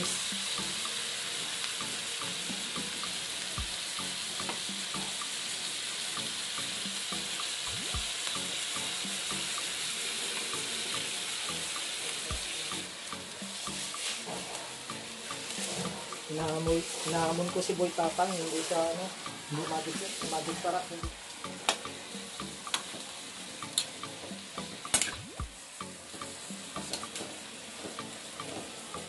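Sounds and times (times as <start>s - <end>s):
vegetables sizzling in a wok: 0.0s - 29.0s.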